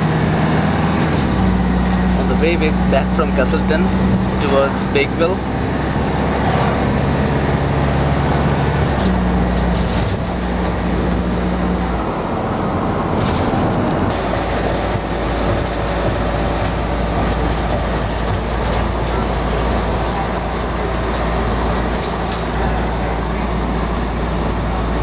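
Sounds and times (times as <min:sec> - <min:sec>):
engine and road noise: 0:00.0 - 0:25.0.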